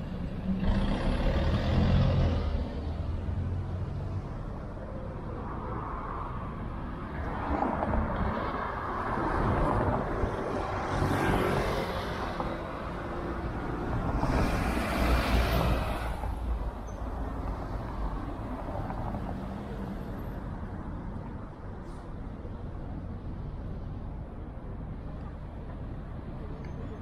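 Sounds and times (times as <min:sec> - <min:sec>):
low traffic rumble: 0:00.0 - 0:27.0
vehicles passing: 0:00.0 - 0:27.0.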